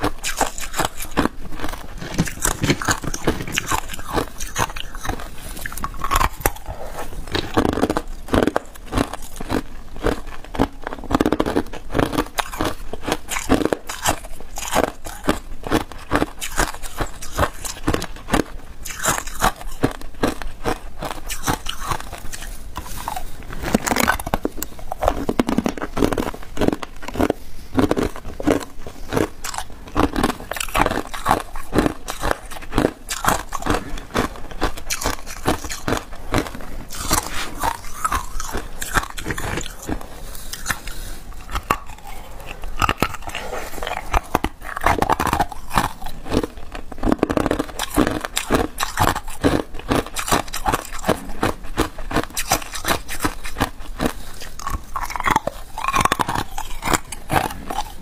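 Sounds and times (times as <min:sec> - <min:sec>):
ice crunching between teeth: 0:00.0 - 0:58.0.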